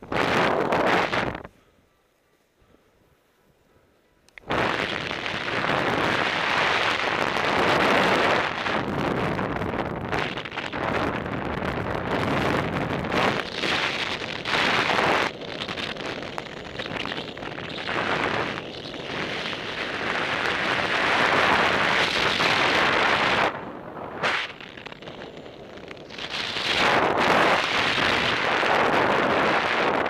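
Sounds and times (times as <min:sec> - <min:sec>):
wind buffeting microphone: 0:00.0 - 0:01.6, 0:04.4 - 0:30.0.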